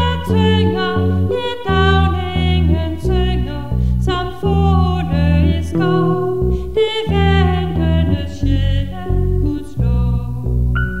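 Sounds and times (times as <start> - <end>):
woman singing a hymn: 0.0 - 10.7
bass low notes: 0.0 - 11.0
piano: 0.0 - 11.0.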